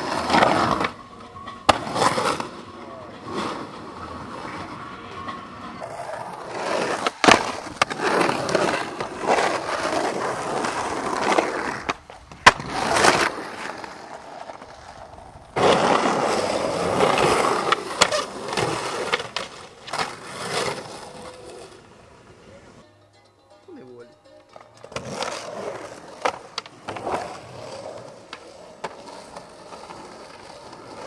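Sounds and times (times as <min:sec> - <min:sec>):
skateboard clacking on surface: 0:00.0 - 0:13.7, 0:16.4 - 0:21.8, 0:24.5 - 0:31.0
skateboard wheels rolling on concrete: 0:00.0 - 0:22.8, 0:24.4 - 0:31.0.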